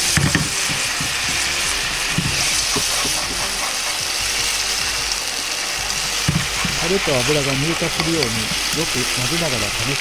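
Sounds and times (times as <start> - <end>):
low rumble of gas flame: 0.0 - 10.0
sauce sizzling in a frying pan: 0.0 - 10.0.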